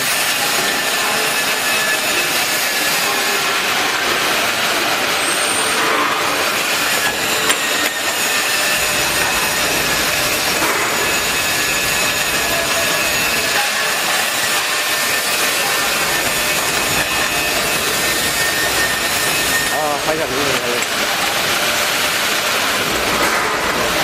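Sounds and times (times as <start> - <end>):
bottle conveyor machinery: 0.0 - 24.0
faint machine whines: 0.0 - 24.0.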